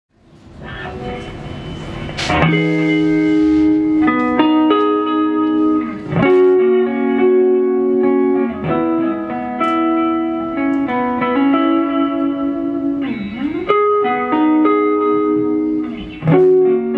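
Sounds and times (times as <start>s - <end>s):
electric guitar notes and chords: 0.9s - 16.9s.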